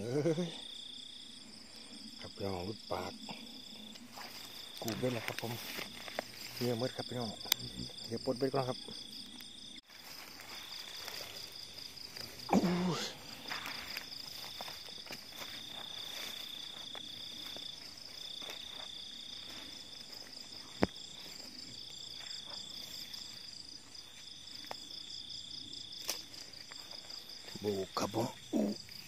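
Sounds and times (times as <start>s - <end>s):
crickets trilling: 0.0s - 29.0s
fast pulsing insect chirp: 0.0s - 29.0s.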